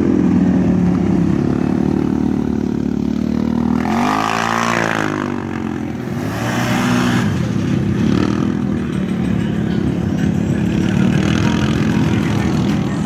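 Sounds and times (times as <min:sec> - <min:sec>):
quad bike engines passing: 0:00.0 - 0:13.0.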